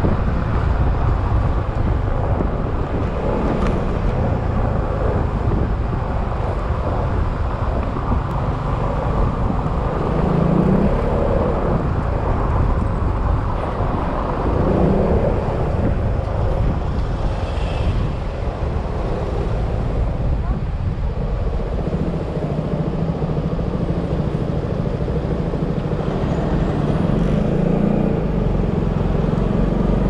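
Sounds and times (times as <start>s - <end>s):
wind and road noise: 0.0s - 30.0s.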